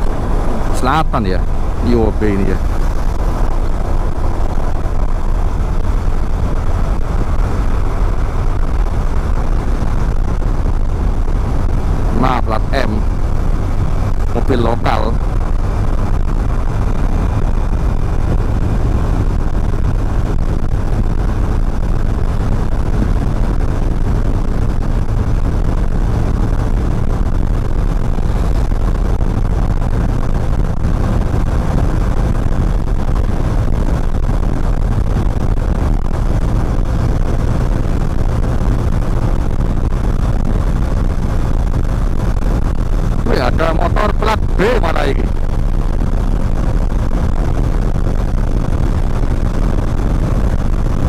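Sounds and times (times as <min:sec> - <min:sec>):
motorcycle engine: 0:00.0 - 0:51.0
road noise: 0:00.0 - 0:51.0
wind rushing over microphone: 0:00.0 - 0:51.0.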